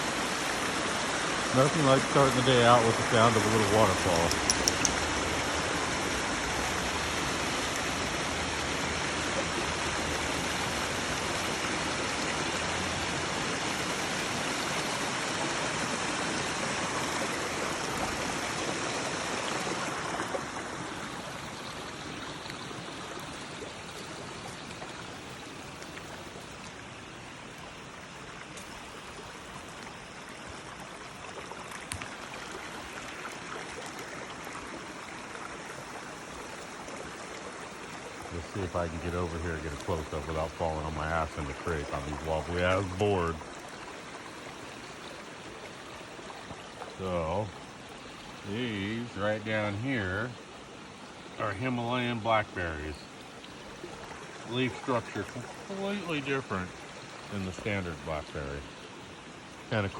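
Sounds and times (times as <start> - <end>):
waterfall water rushing: 0.0 - 30.2, 31.9 - 59.9.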